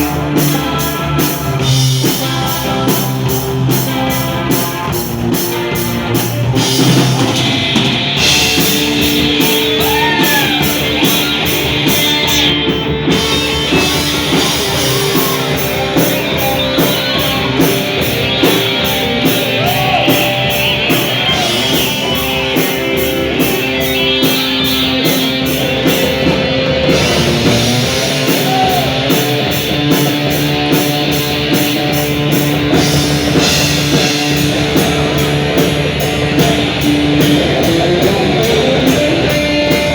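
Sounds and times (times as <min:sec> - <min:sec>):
bass guitar: 0:00.0 - 0:39.9
drum kit with cymbal beat: 0:00.0 - 0:39.9
electric guitars bending notes: 0:00.0 - 0:39.9.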